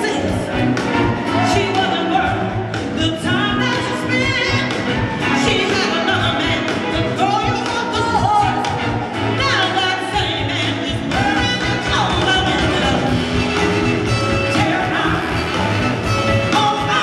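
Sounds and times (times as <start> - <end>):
drums: 0.0 - 17.0
electric guitars: 0.0 - 17.0
horn section: 0.0 - 17.0
person singing: 0.0 - 17.0.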